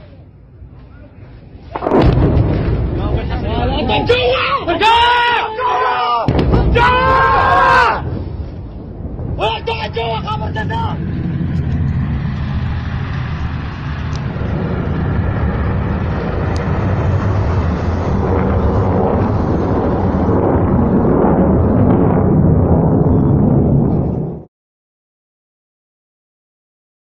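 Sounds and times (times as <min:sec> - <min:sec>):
rocket motors roaring: 0:00.0 - 0:24.5.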